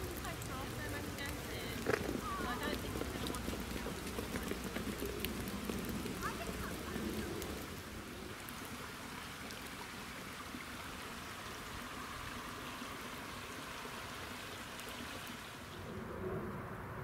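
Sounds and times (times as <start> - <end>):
stream trickling over stones: 0.0 - 16.0.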